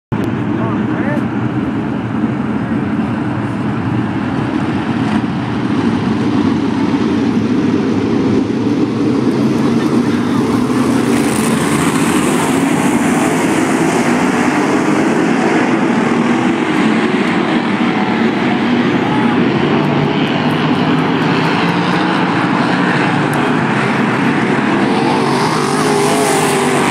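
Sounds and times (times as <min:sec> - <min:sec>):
race car engines droning: 0:00.1 - 0:26.9.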